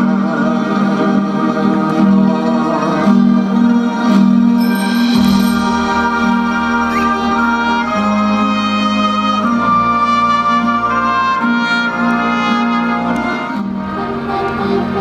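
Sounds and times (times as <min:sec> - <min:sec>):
melody in long held notes: 0:00.0 - 0:15.0
steady bass line: 0:00.0 - 0:15.0.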